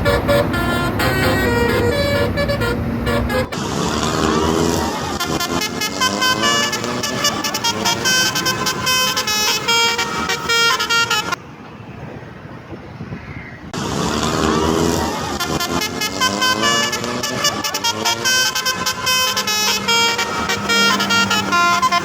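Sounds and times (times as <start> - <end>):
multi-trumpet air horn melody: 0.0 - 11.4, 14.0 - 22.0.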